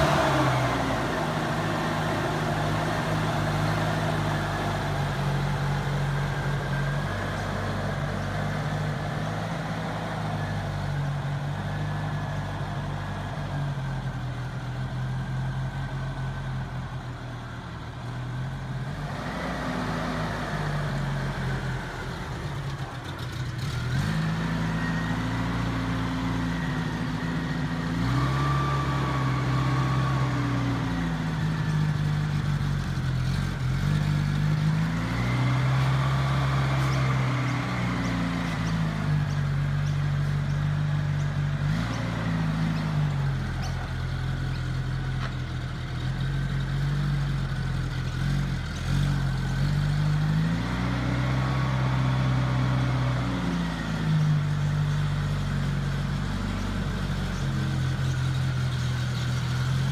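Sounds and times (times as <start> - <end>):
car engine idling: 0.0 - 28.2, 28.8 - 59.9.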